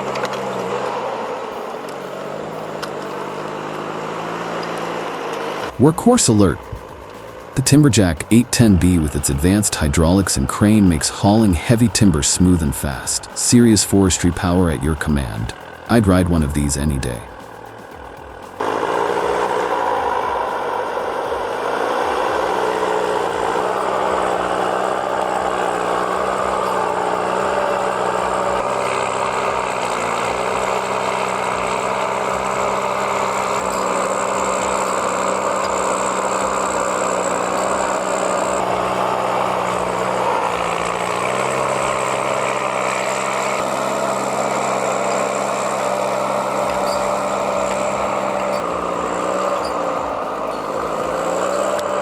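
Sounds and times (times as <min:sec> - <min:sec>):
heavy machine engine running: 0:00.0 - 0:52.0.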